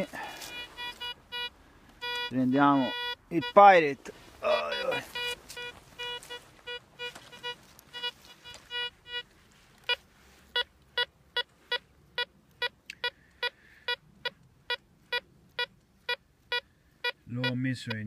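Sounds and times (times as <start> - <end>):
metal detector beeping: 0.0 - 3.8, 4.4 - 18.0.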